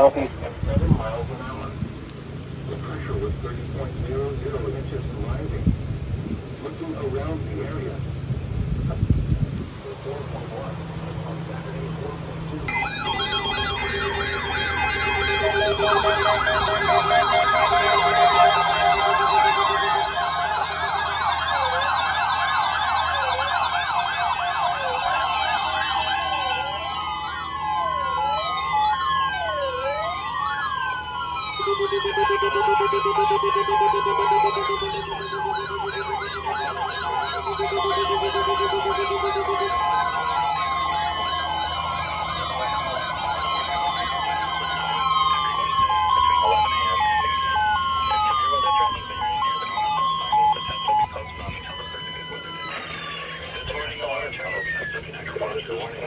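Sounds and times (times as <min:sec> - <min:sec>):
steady electronic tones: 0:00.0 - 0:06.0, 0:09.5 - 0:56.0
warbling siren yelp: 0:00.0 - 0:06.3, 0:09.6 - 0:56.0
siren wail sweeping up and down: 0:09.8 - 0:55.2.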